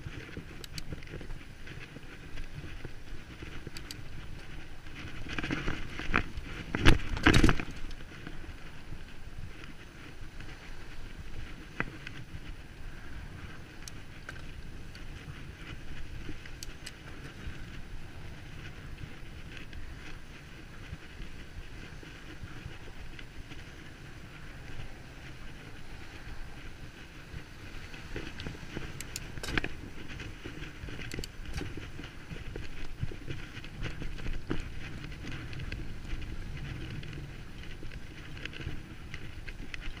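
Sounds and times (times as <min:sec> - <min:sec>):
bicycle rumbling over rough ground: 0:00.0 - 0:40.0.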